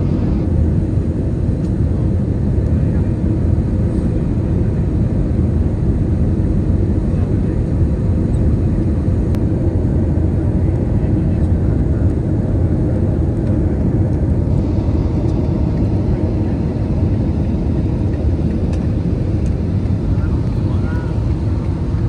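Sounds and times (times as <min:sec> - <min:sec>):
jet engines in cabin: 0:00.0 - 0:22.0.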